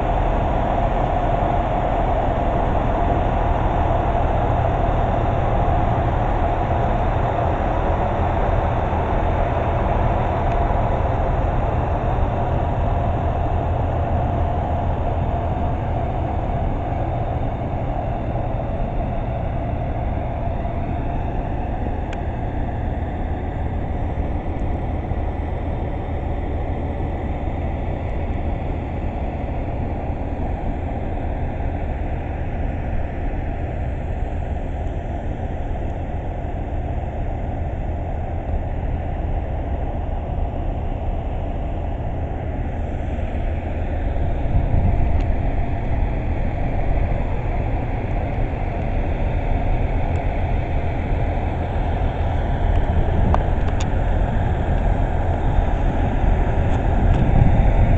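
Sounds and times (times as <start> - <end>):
low rumble of trains at platform: 0.0 - 57.9.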